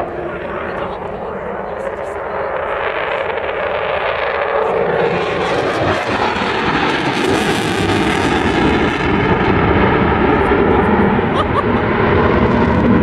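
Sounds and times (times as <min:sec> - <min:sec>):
fighter jet roar: 0:00.0 - 0:13.0.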